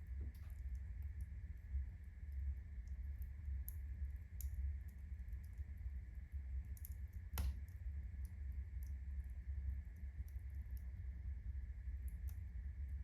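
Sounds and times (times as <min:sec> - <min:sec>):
log fire crackling: 0:00.0 - 0:13.0
low steady fire rumble: 0:00.0 - 0:13.0.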